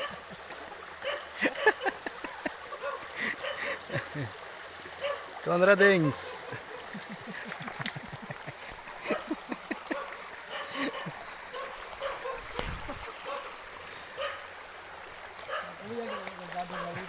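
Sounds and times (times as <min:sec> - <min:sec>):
river water running: 0:00.0 - 0:17.0.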